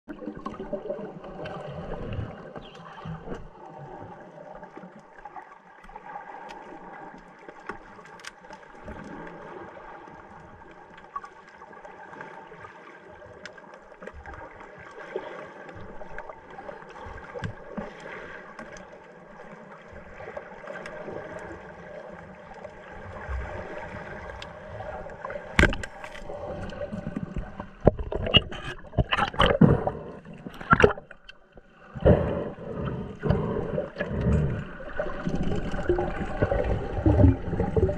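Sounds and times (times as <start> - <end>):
underwater hiss and gurgle: 0.1 - 37.9.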